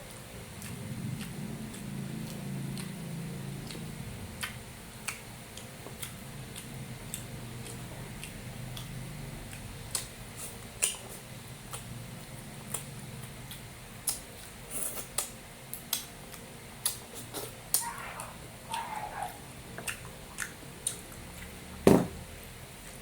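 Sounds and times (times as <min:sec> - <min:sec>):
person chewing food: 0:00.0 - 0:11.9, 0:12.6 - 0:23.0
steady low hum: 0:00.0 - 0:23.0.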